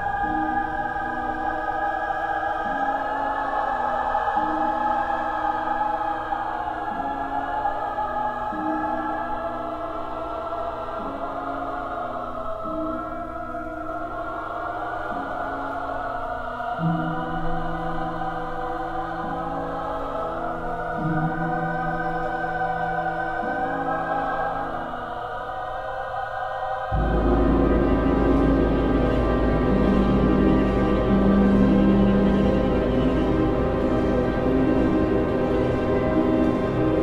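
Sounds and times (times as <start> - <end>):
choir singing sustained chords: 0.0 - 37.0.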